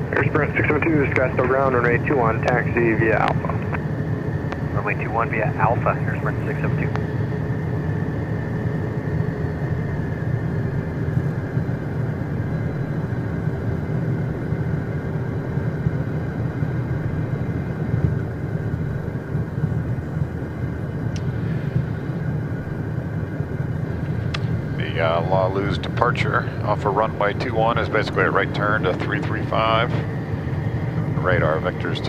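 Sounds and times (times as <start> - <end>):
jet engines droning in cockpit: 0.0 - 32.0.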